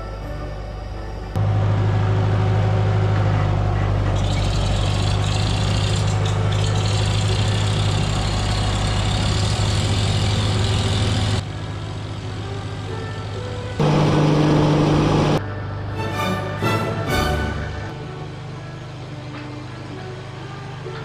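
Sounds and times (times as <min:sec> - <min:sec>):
tractor engine humming: 0:00.0 - 0:21.0.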